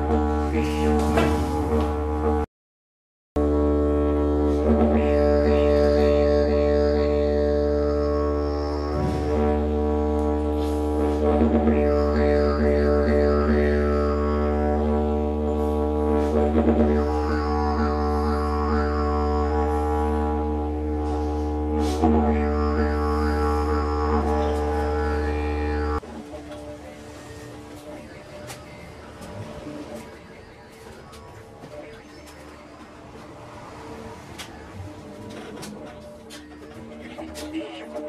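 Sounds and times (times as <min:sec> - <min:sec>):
didgeridoo drone: 0:00.0 - 0:02.5, 0:03.4 - 0:38.0
didgeridoo rhythmic pulses: 0:00.0 - 0:02.5, 0:03.4 - 0:38.0.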